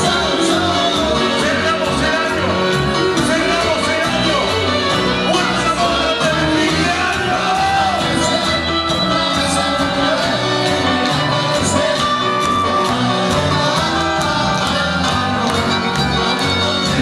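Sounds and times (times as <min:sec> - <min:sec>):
live band playing dance music: 0:00.0 - 0:17.0
person singing: 0:00.0 - 0:17.0.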